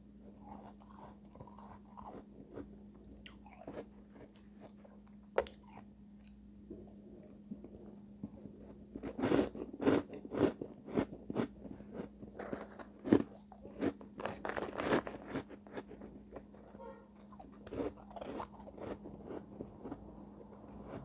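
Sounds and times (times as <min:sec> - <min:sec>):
chewing crunchy ice: 0:00.2 - 0:06.4, 0:07.2 - 0:21.0.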